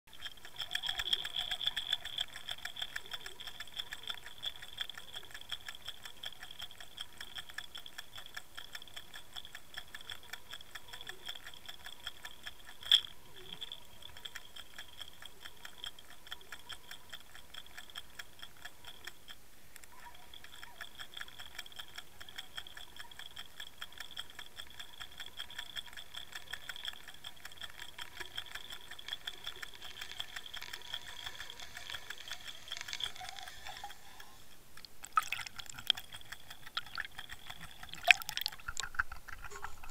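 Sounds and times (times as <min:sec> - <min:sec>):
fast even ticking: 0:00.1 - 0:39.9.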